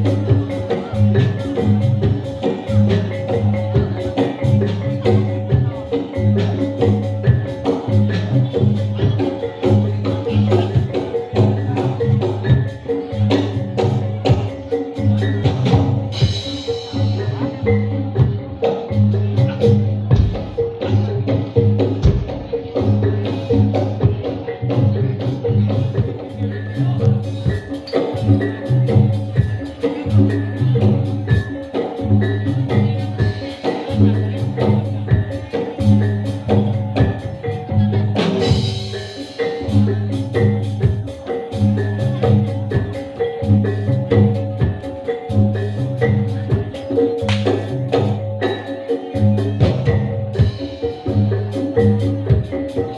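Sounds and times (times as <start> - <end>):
drum strikes: 0.0 - 52.9
struck metal instruments melody: 0.0 - 52.9.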